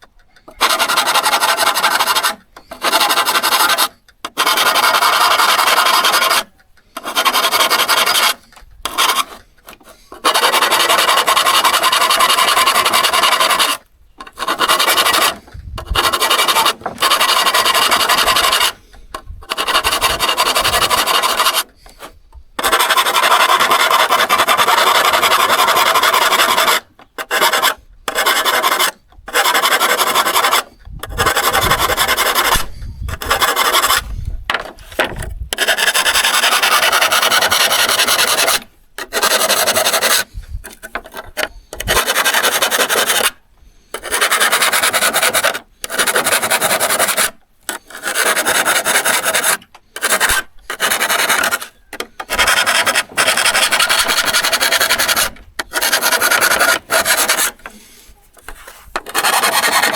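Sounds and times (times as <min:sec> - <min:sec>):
hand scraping steel saw blade: 0:00.0 - 0:59.9.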